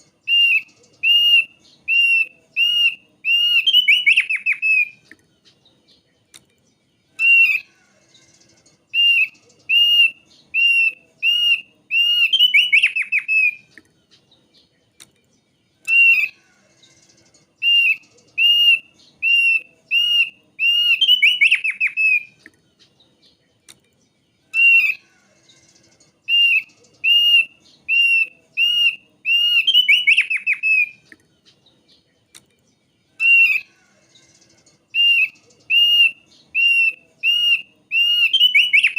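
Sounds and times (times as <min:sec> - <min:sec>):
bird whistling song with trill: 0:00.0 - 0:14.7, 0:15.8 - 0:23.4, 0:24.5 - 0:32.0, 0:33.2 - 0:38.9.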